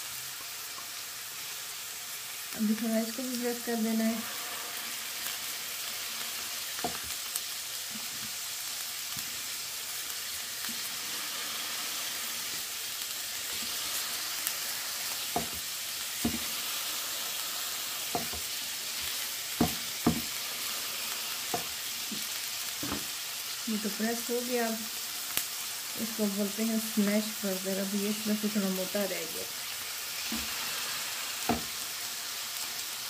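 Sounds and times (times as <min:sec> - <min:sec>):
patties sizzling in oil: 0:00.0 - 0:33.0.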